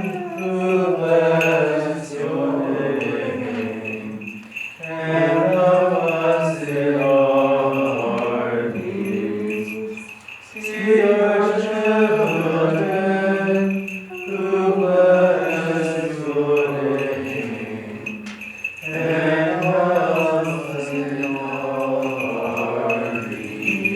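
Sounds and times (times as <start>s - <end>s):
voices chanting a hymn: 0.0s - 23.9s.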